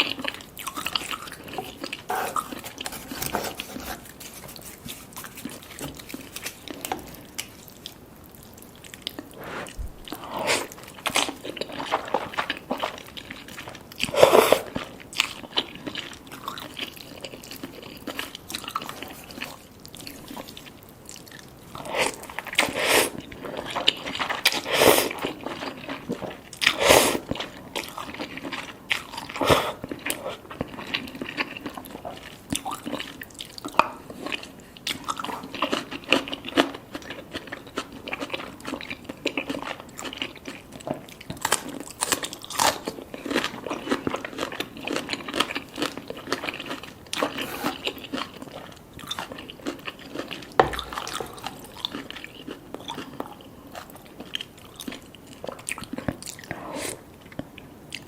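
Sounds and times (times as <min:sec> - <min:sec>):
chewing and biting food: 0:00.0 - 0:58.0.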